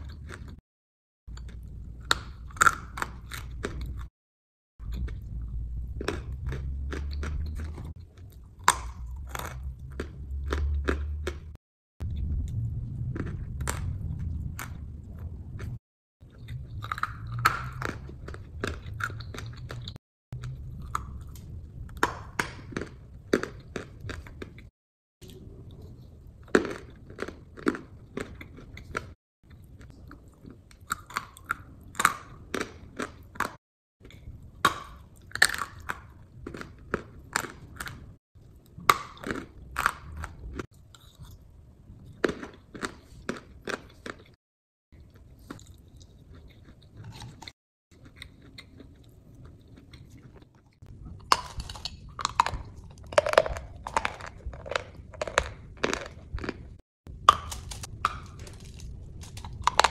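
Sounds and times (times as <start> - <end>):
chewing crunchy food: 0.0 - 0.6, 1.3 - 4.1, 4.8 - 59.9.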